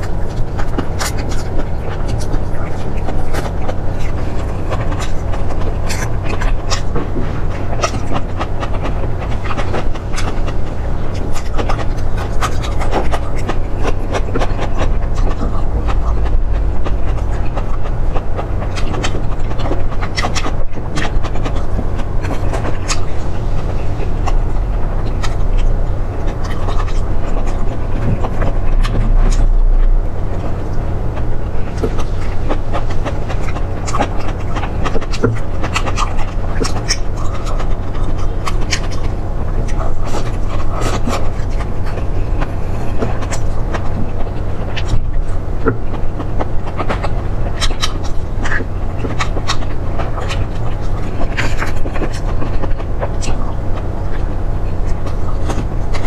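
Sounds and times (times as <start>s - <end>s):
chewing crunches: 0.0s - 56.0s
steady low rumble: 0.0s - 56.0s.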